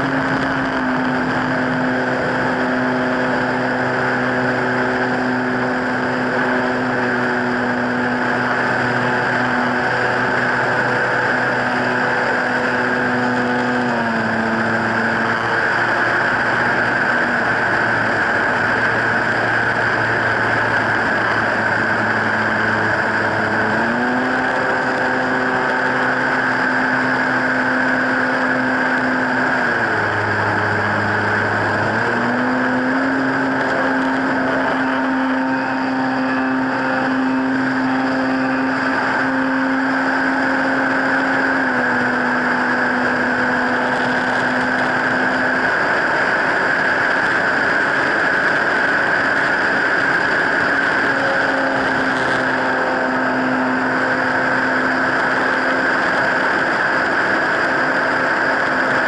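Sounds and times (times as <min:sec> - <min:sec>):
model plane motor whine: 0:00.0 - 0:59.0.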